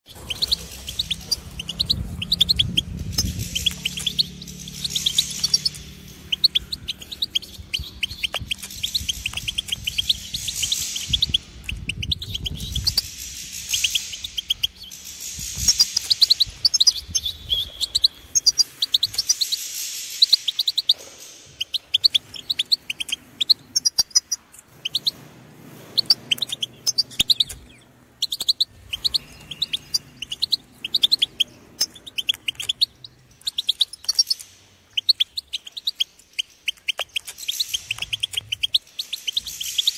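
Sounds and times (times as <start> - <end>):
goldfinch singing twittering notes: 0.1 - 21.0, 21.6 - 25.2, 25.9 - 39.9.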